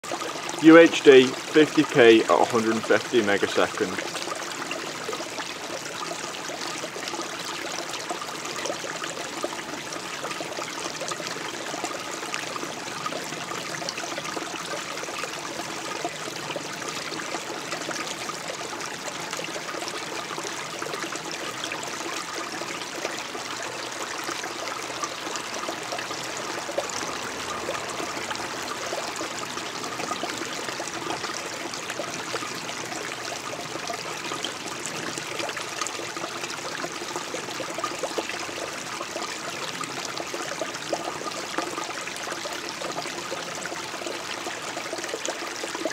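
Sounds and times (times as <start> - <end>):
stream trickling over stones: 0.0 - 45.9.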